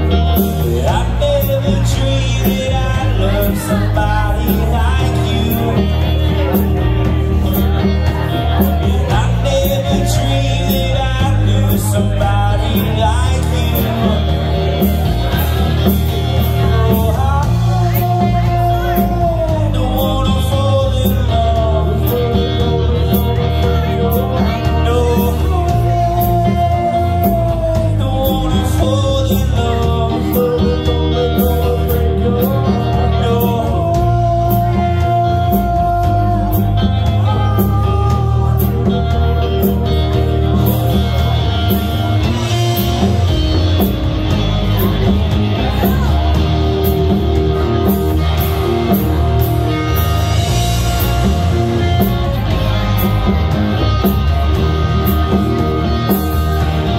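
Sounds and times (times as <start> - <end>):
drum kit: 0.0 - 56.9
electric guitars: 0.0 - 56.9
man singing: 0.0 - 56.9.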